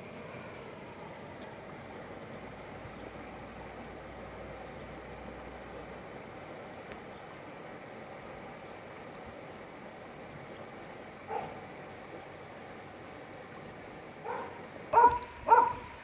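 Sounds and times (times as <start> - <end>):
river water flowing over rocks: 0.0 - 16.0.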